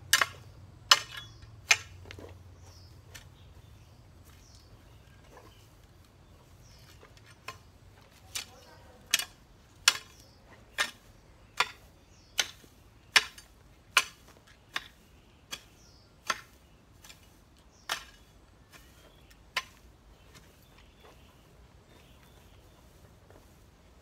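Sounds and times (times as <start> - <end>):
garden tool scraping grass and soil: 0.0 - 24.0.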